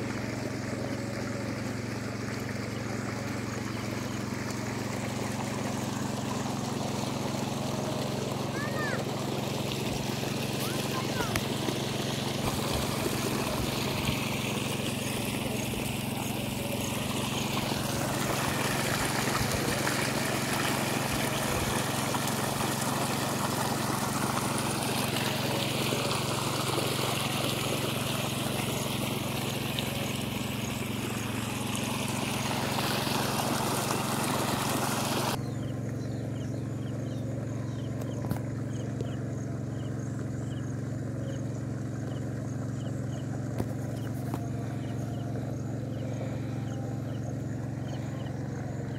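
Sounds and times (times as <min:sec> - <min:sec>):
engine hum: 0:00.0 - 0:48.9.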